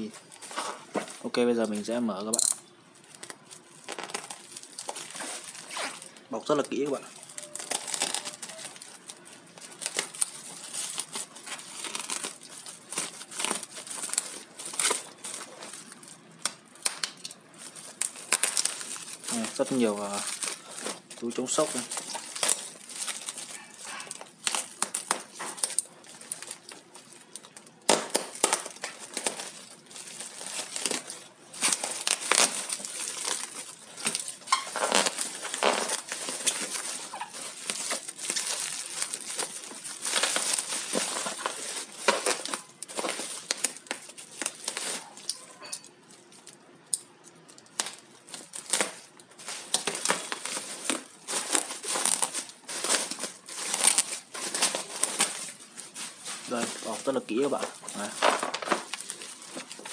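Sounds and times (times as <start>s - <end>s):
plastic packaging crinkling: 0.0s - 59.9s.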